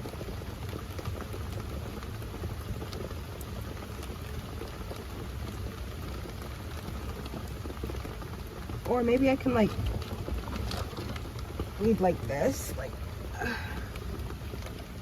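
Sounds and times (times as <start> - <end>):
low rain rumble: 0.0 - 15.0
rain drops ticking on camper: 0.0 - 15.0.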